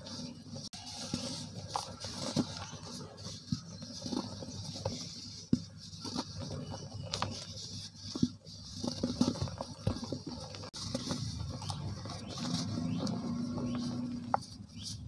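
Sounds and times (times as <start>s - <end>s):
powder pattering: 0.0s - 15.0s.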